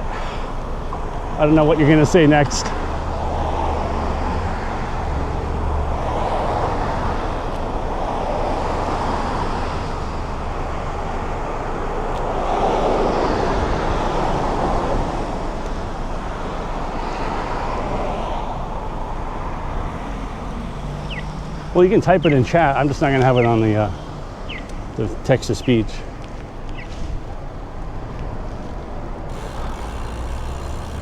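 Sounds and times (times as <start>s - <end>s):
cars and tyres rushing on road: 0.0s - 31.0s.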